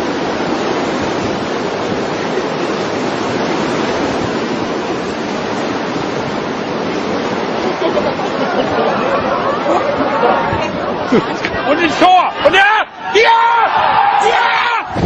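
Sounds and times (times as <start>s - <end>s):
strong wind on microphone: 0.0s - 11.7s, 13.0s - 15.0s.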